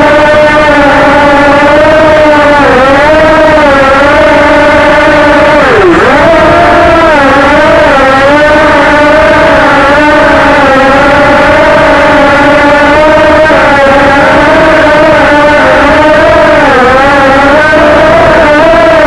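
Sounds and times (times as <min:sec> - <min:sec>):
person imitating motors buzzing: 0:00.0 - 0:19.0.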